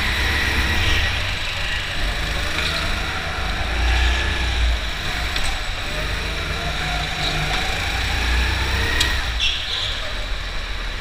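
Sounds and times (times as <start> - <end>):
go-kart engine racing: 0.0 - 11.0.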